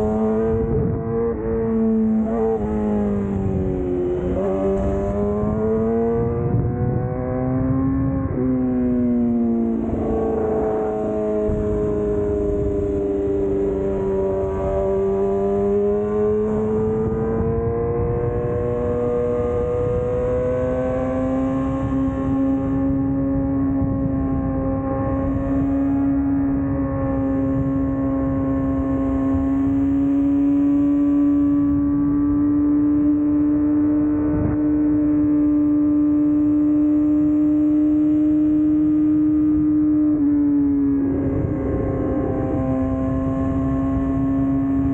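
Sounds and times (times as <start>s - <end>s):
wind on microphone: 0.0s - 35.8s, 37.8s - 44.9s
motorcycle engine at high revs: 0.0s - 44.9s.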